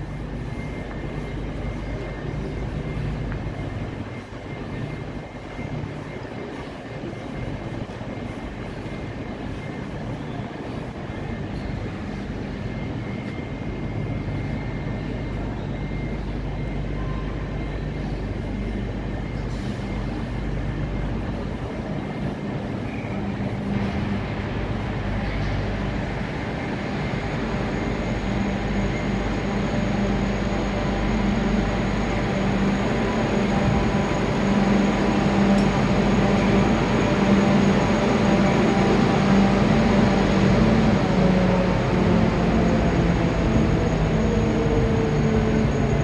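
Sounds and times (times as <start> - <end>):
station hall noise: 0.0 - 46.0
train humming: 0.0 - 46.0.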